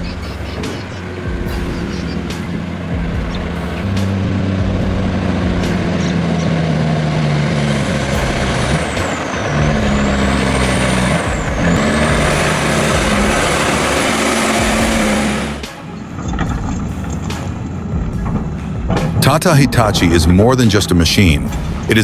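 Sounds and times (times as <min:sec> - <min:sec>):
diesel truck engine running hard: 0:00.0 - 0:22.0
high whine: 0:00.0 - 0:22.0.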